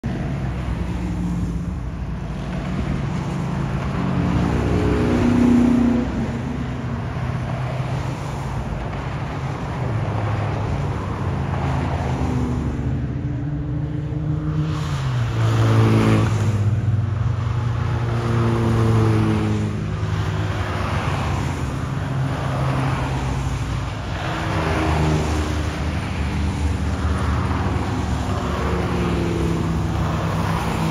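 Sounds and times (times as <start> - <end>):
cars driving past: 0.0 - 30.9.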